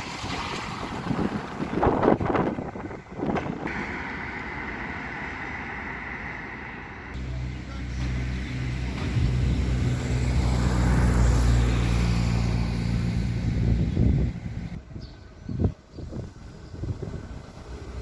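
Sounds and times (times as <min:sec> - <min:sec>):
vehicle engine humming: 0:00.0 - 0:14.8.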